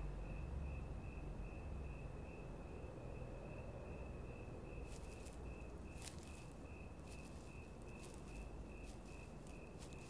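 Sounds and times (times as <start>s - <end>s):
cricket chirping: 0.0s - 10.0s
low night-time hiss: 0.0s - 10.0s.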